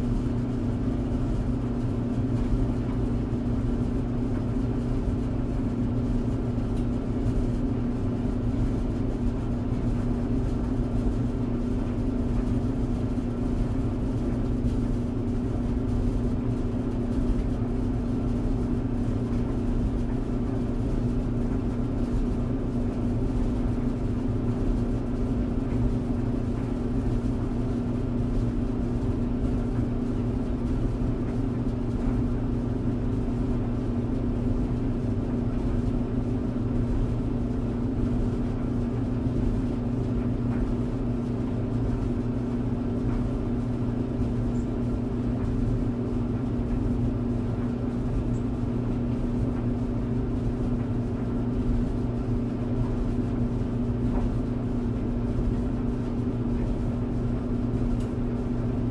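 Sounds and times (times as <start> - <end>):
clothes dryer running: 0.0 - 58.9.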